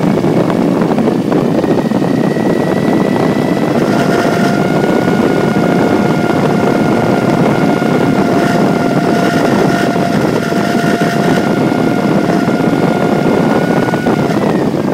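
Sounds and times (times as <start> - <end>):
car engine running: 0.0 - 14.9
constant whine: 0.0 - 14.9.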